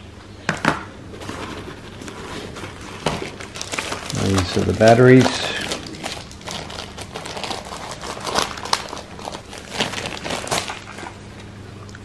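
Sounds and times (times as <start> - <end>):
plastic wrap crinkling: 1.2 - 11.6.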